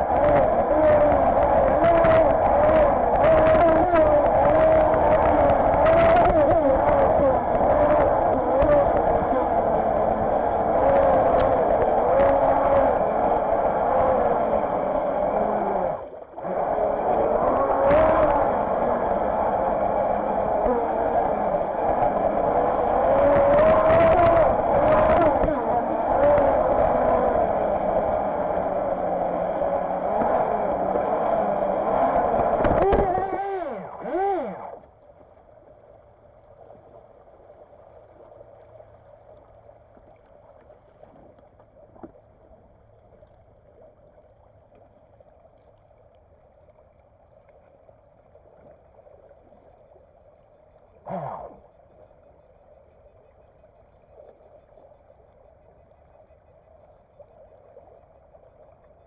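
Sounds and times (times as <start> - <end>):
boat motor and water jet: 0.0 - 59.0
water gurgling and lapping: 0.0 - 59.0.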